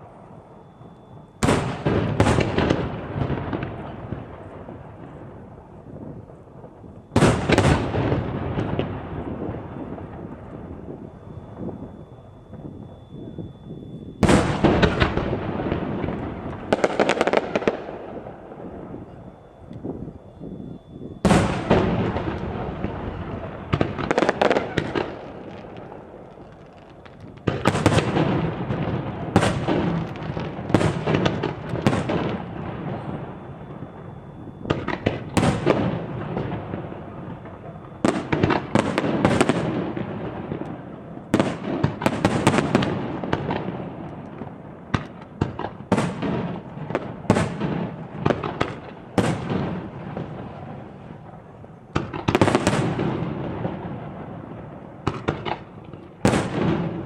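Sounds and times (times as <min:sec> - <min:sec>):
fireworks bursting with booming bangs: 0:00.0 - 0:57.0.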